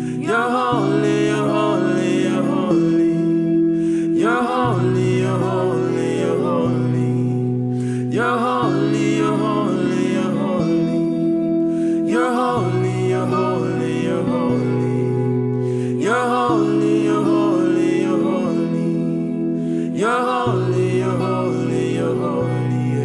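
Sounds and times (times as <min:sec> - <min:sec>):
keyboard pad chords: 0:00.0 - 0:23.0
person singing: 0:00.0 - 0:23.0.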